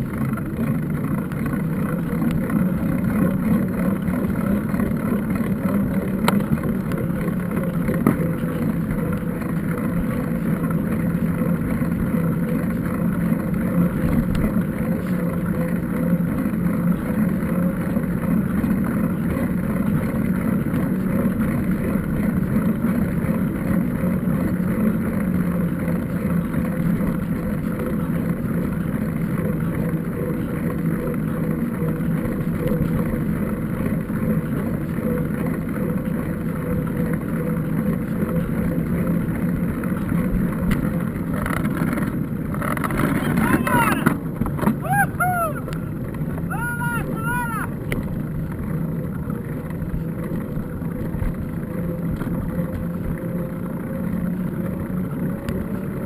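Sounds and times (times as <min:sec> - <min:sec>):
motor drone: 0:00.0 - 0:56.0.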